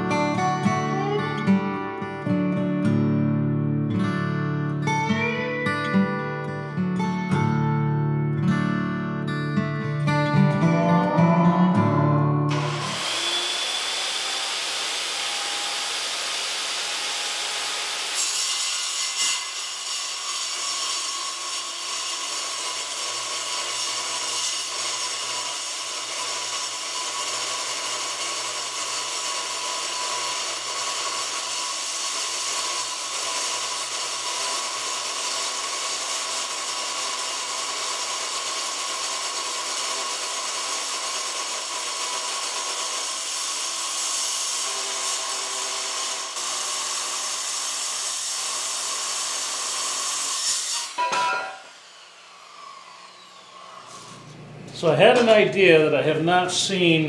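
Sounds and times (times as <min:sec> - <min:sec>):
circular saw cutting steel: 0:10.7 - 0:57.0.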